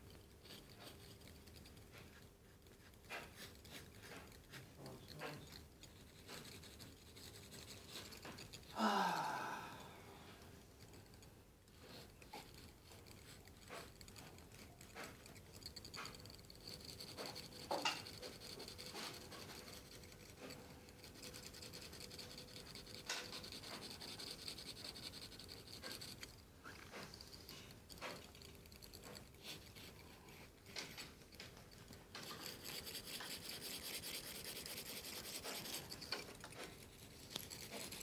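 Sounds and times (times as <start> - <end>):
pencil scratching on paper: 0.1 - 8.7, 11.7 - 38.0.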